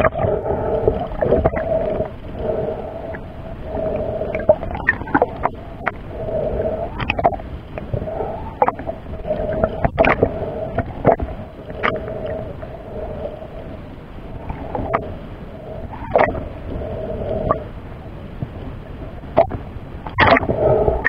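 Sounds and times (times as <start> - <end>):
wavering underwater hum: 0.0 - 21.0.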